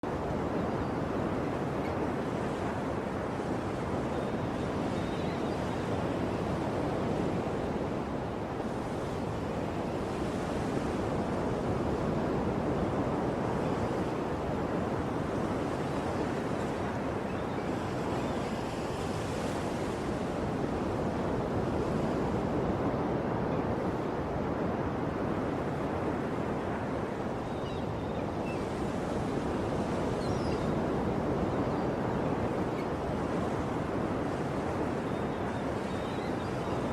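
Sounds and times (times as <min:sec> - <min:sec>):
ocean waves washing on shore: 0:00.0 - 0:36.9.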